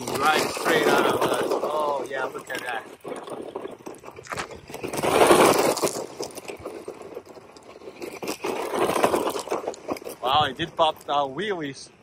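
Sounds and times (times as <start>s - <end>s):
tyres crunching on gravel: 0.0s - 12.0s.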